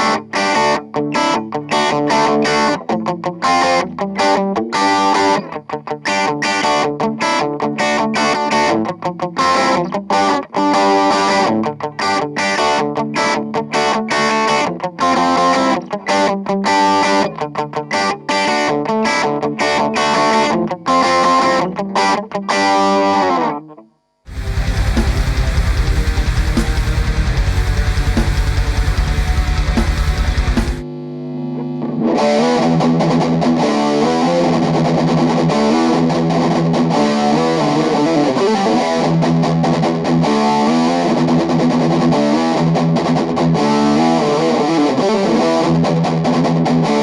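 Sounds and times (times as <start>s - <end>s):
overdriven electric guitar riffs: 0.0s - 47.0s.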